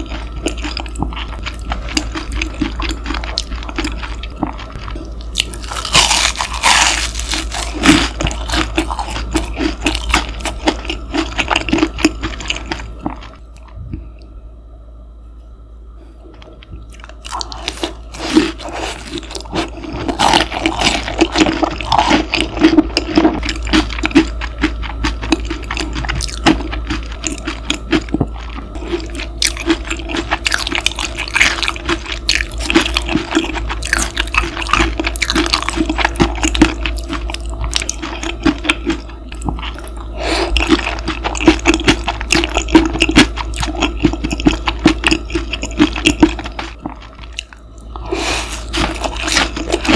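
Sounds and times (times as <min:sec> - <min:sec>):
crunchy wet chewing: 0:00.0 - 0:13.8, 0:16.4 - 0:49.9
low mechanical hum: 0:00.0 - 0:49.9.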